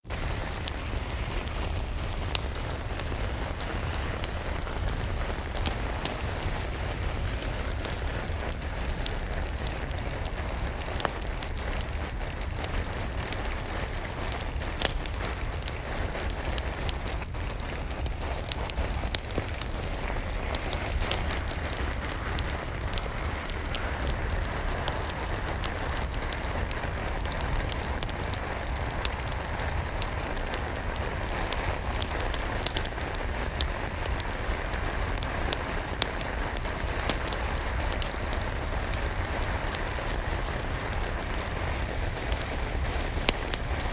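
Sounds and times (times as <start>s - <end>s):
fire crackling and popping: 0.0s - 43.9s
steady rain hiss: 0.0s - 43.9s.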